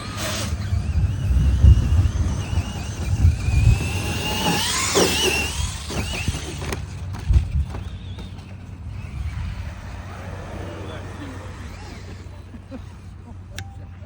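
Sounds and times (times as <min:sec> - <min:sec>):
electric motor whining: 0:00.0 - 0:13.2.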